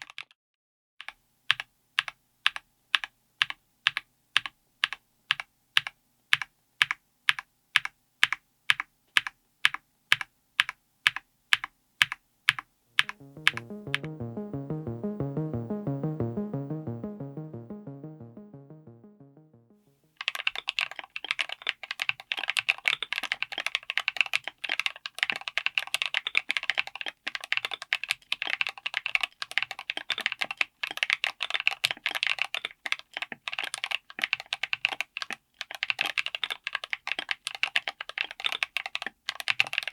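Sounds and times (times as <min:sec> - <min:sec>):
mechanical keyboard typing: 0:01.0 - 0:14.5, 0:20.2 - 0:39.9.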